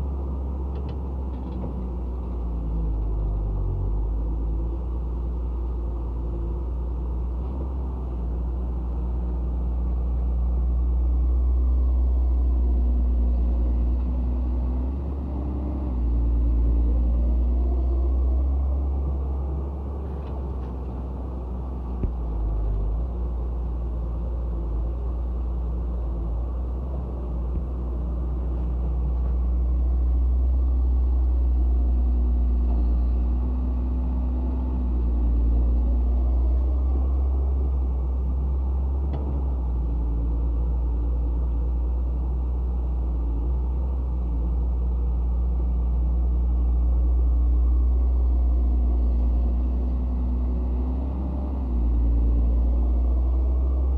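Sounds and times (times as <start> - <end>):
heavy diesel machinery rumble: 0.0 - 53.9.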